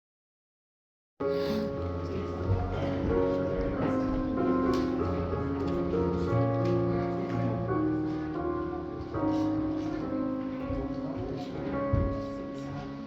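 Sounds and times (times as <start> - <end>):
slow keyboard chords: 1.2 - 13.0.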